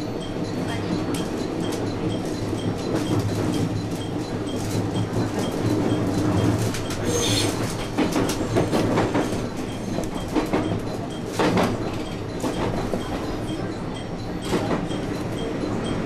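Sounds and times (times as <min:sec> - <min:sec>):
train running hum: 0:00.0 - 0:16.0.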